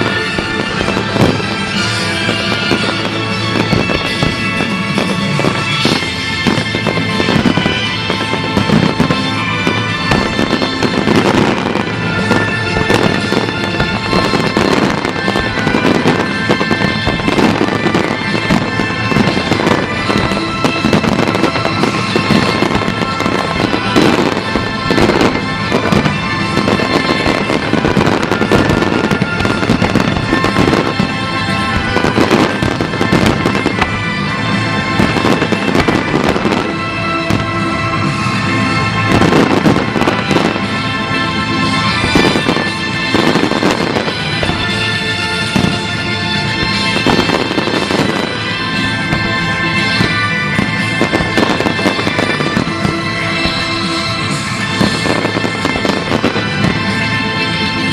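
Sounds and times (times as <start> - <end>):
fireworks bangs and crackles: 0.0 - 57.9
music playing: 0.0 - 57.9.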